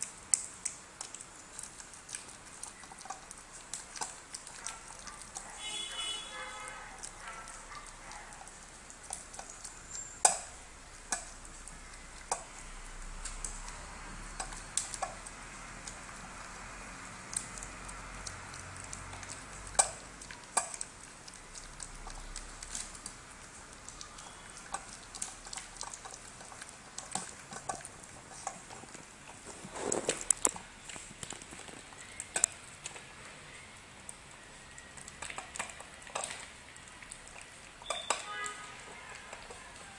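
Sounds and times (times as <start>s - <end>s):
dog eating from metal bowl: 0.0s - 39.9s.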